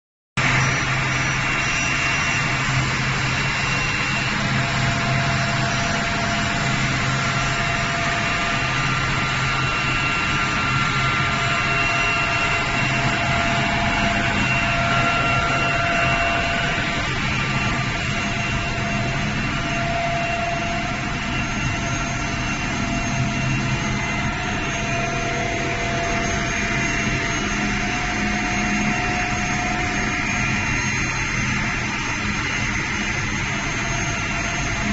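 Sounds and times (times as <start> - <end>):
extrusion machinery hiss and hum: 0.4 - 34.9.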